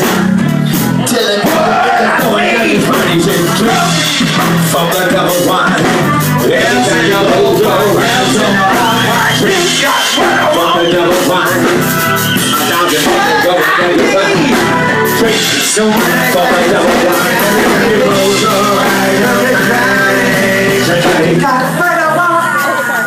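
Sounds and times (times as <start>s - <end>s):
drums: 0.0s - 23.0s
electric bass: 0.0s - 23.0s
live rock band playing: 0.0s - 23.0s.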